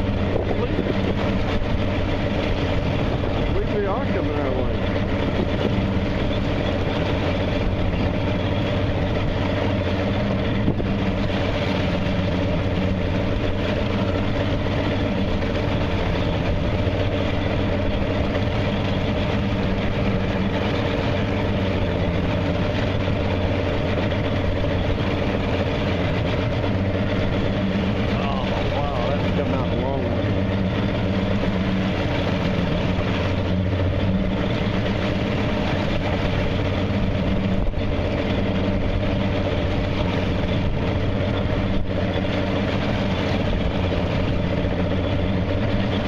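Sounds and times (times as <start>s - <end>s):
boat engine idling: 0.0s - 46.0s.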